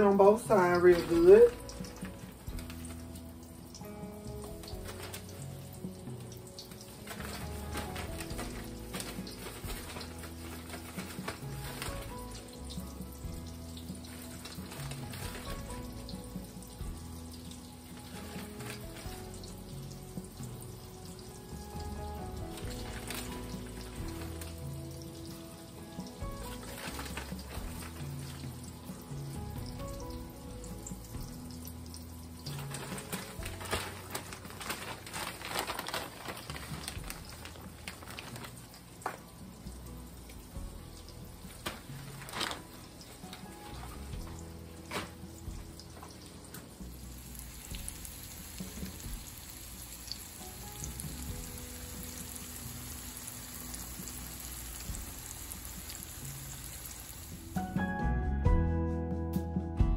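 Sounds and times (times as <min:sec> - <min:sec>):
food sizzling in hot oil: 0:00.0 - 0:58.0
background music: 0:00.0 - 0:59.9.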